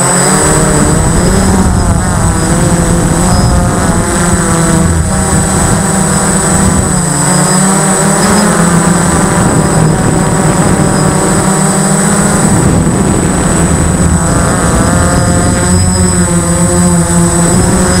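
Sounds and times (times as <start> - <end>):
high whine: 0.0 - 18.0
model plane motor and propeller: 0.0 - 18.0.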